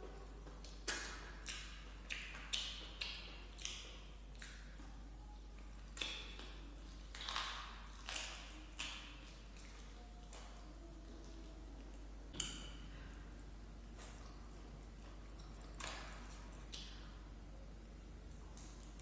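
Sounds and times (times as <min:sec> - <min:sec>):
wet chewing and lip smacks: 0:00.2 - 0:12.8, 0:13.4 - 0:17.2, 0:18.0 - 0:19.0.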